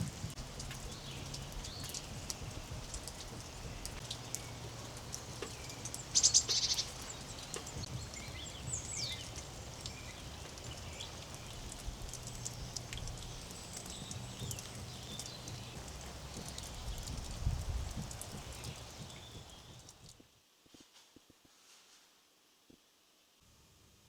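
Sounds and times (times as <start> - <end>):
rain dripping: 0.0 - 20.3
songbirds trilling and whistling: 0.5 - 20.0.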